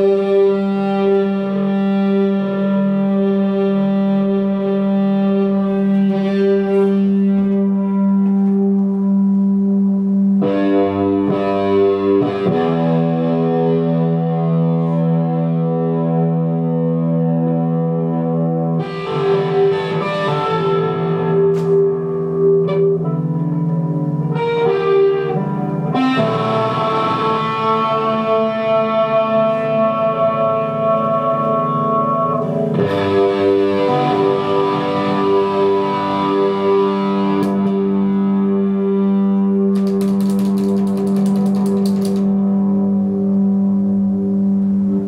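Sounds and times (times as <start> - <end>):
distorted electric guitar chords: 0.0 - 45.0.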